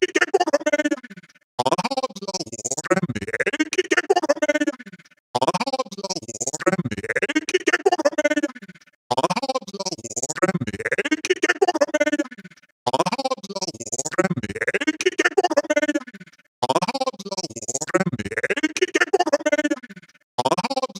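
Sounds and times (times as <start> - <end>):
glitchy robotic voice: 0.0 - 4.8, 5.4 - 20.9.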